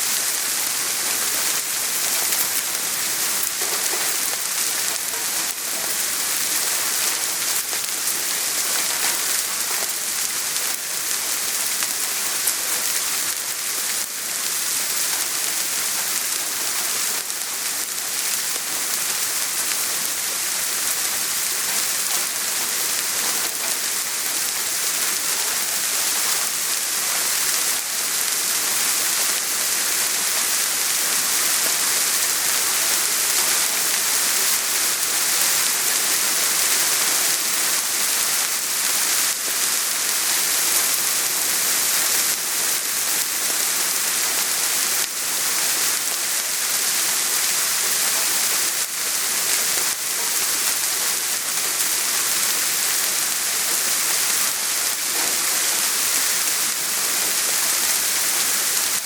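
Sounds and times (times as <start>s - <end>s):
raindrops pattering on surface: 0.0s - 59.0s
soft rain hiss: 0.0s - 59.0s.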